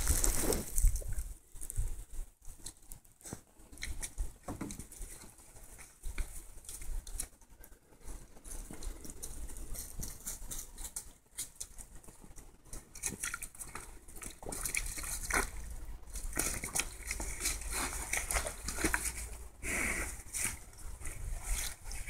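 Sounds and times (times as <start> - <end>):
boar rooting in wet mud: 0.0 - 22.0.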